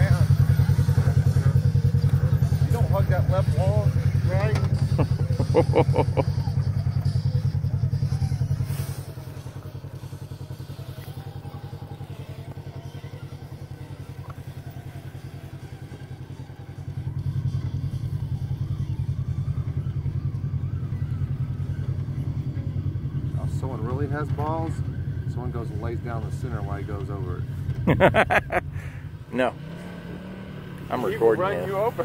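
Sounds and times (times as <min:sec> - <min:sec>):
off-road vehicle engine running: 0:00.0 - 0:32.0.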